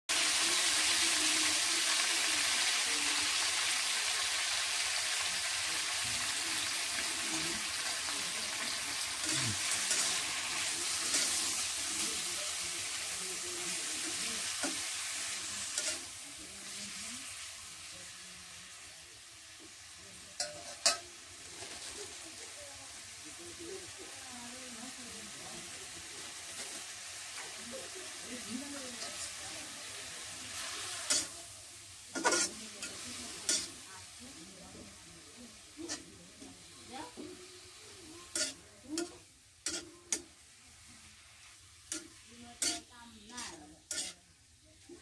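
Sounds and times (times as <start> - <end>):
onions sizzling in hot oil: 0.1 - 45.0.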